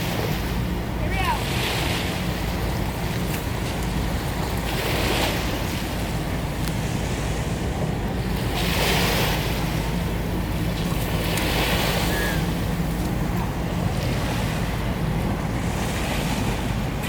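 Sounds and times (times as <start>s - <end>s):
boat engine drone: 0.0s - 17.0s
waves washing in: 0.0s - 17.0s
wind buffeting microphone: 0.0s - 17.0s.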